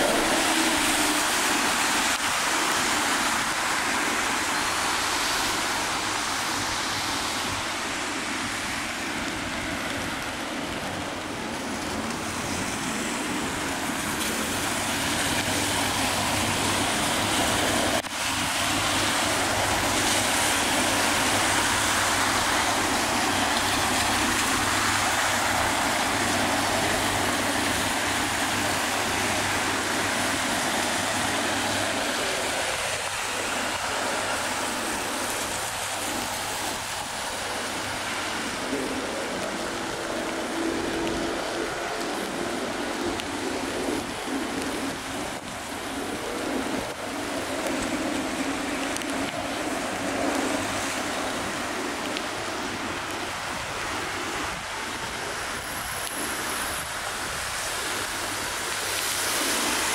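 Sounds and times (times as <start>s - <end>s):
tyres hissing on wet road: 0.0s - 59.9s.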